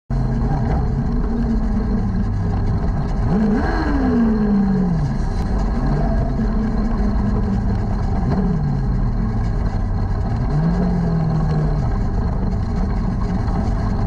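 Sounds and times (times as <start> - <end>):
race car engine revving: 0.1 - 14.0.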